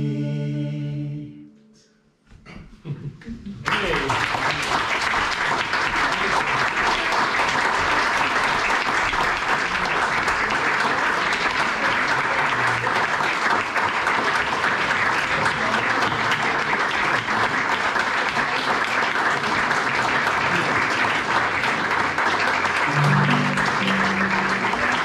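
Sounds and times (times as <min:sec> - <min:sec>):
audience applauding: 0:03.6 - 0:25.0.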